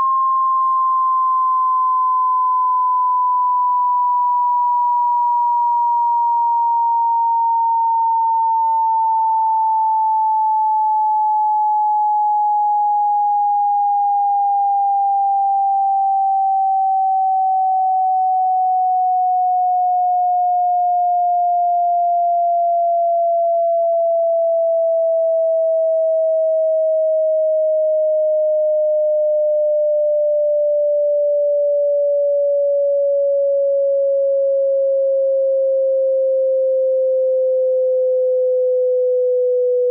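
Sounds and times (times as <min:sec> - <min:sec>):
sine tone gliding down: 0:00.0 - 0:39.9.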